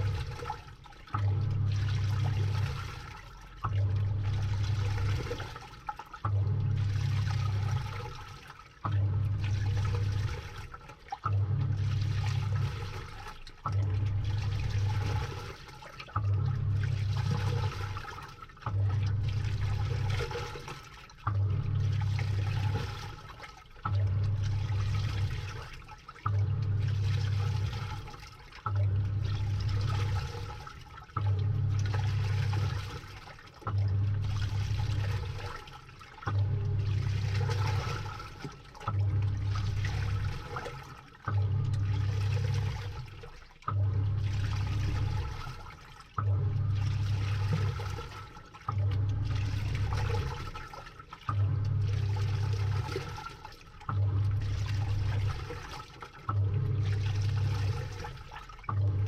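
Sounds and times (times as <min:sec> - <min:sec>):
washing machine motor humming: 0:00.0 - 0:59.0
water and clothes sloshing: 0:00.0 - 0:59.0.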